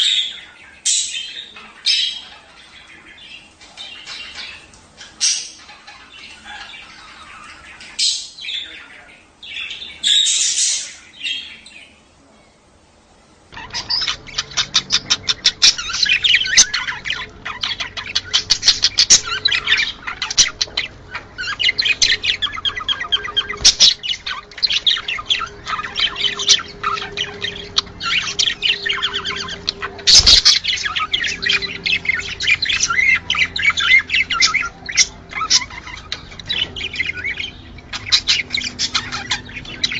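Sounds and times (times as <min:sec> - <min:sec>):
budgerigars chirping and squawking: 0:00.0 - 0:12.1, 0:13.5 - 0:39.9.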